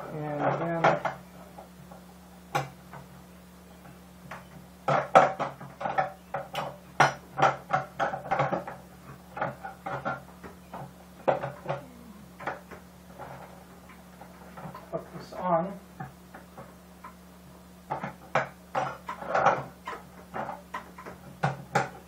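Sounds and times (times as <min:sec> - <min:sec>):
garbage disposal clicking and scraping: 0:00.0 - 0:03.2, 0:03.8 - 0:15.4, 0:17.8 - 0:22.0.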